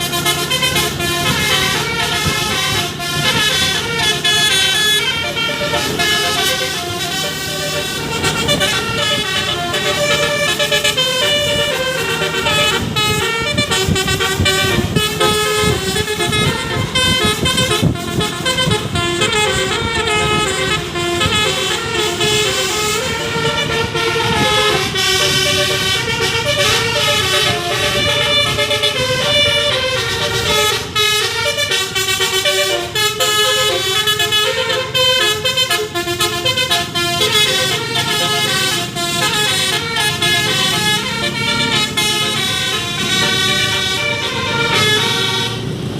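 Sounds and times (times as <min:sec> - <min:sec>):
multi-tone bus air horns tune: 0:00.0 - 0:45.9.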